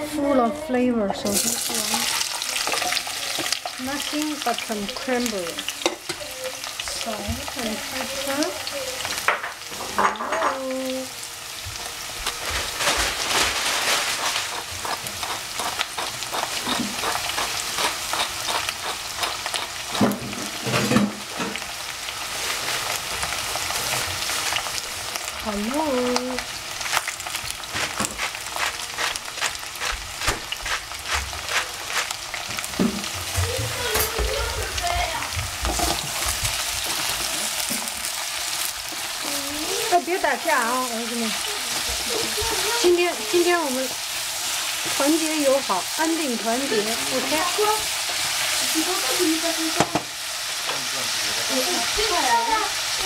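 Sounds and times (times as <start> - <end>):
vegetables sizzling in oil: 0.0 - 53.0.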